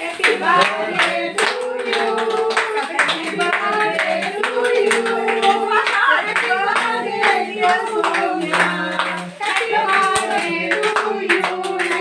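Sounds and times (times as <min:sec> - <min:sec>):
people clapping in rhythm: 0:00.0 - 0:12.0
voices singing along: 0:00.0 - 0:12.0.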